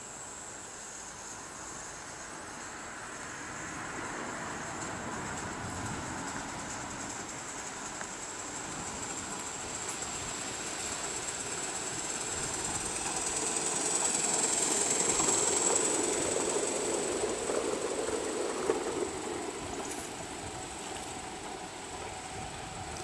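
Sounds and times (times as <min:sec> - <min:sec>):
model train running: 0:00.0 - 0:23.0.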